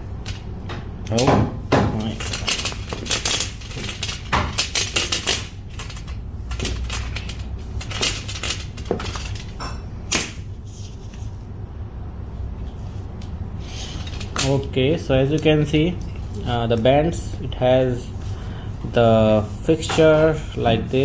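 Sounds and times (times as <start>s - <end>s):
metal hooks clicking and rattling: 0.0s - 11.2s, 13.6s - 21.0s.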